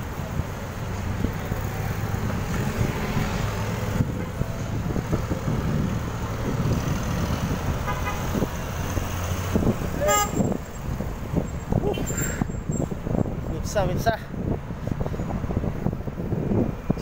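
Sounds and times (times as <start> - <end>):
road traffic rumble: 0.0 - 17.0
wind noise on microphone: 0.0 - 17.0.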